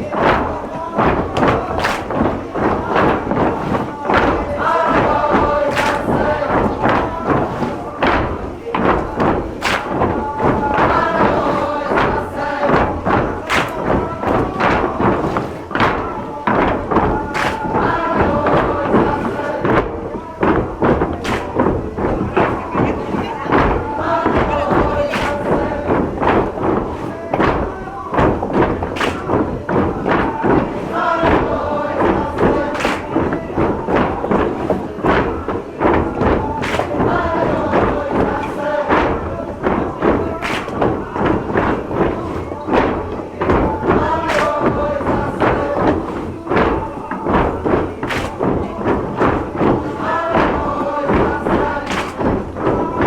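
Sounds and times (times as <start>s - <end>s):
group singing: 0.0s - 53.0s
wooden clogs stamping on wooden floor: 0.0s - 53.0s.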